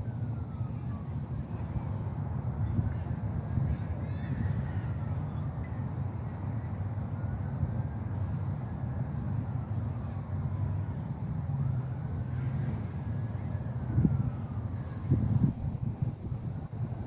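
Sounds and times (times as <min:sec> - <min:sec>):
distant traffic rumble: 0:00.0 - 0:17.0
faint siren wailing: 0:00.0 - 0:17.0.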